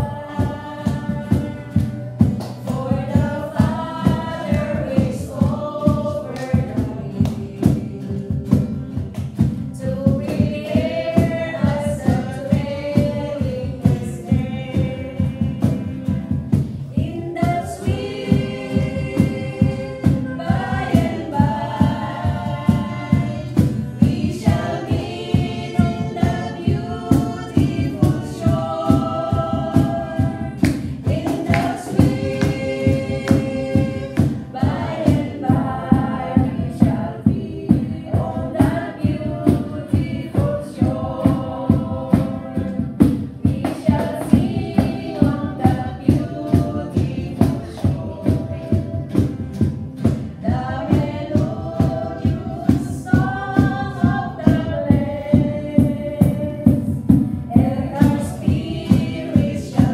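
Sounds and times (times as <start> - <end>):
acoustic guitar strumming: 0.0 - 59.9
women singing a hymn: 0.0 - 59.9.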